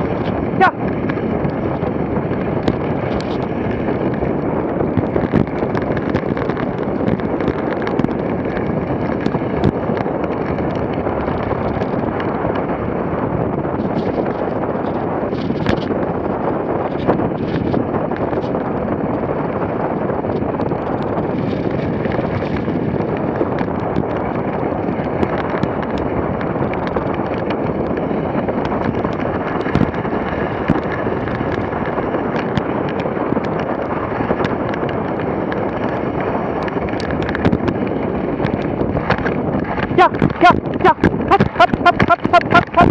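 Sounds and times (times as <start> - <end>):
sled clicks and knocks: 0.0 - 42.9
sled runners on packed snow: 0.0 - 42.9
wind on microphone: 0.0 - 42.9.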